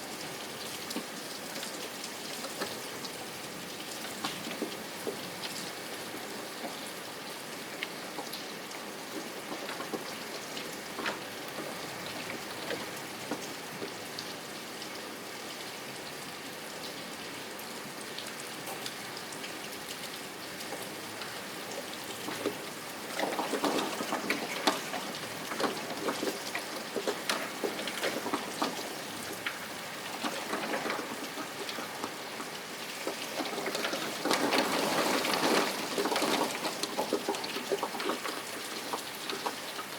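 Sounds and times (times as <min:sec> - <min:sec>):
raindrops striking a surface: 0:00.0 - 0:39.9.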